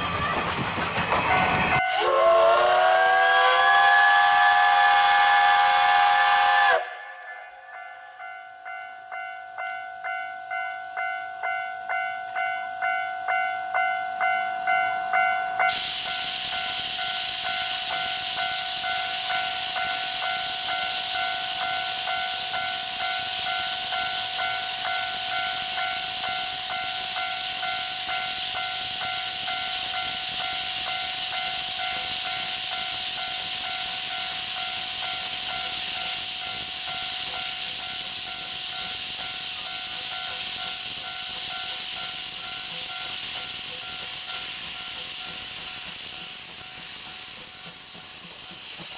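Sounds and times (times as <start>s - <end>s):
locomotive venting steam hiss: 0.0s - 7.2s, 15.1s - 48.9s.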